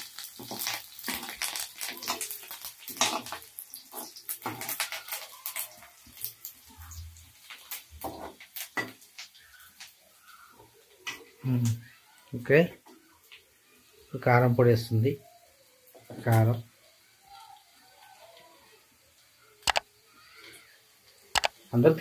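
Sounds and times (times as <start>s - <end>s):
sizzling oil hiss: 0.0s - 22.0s.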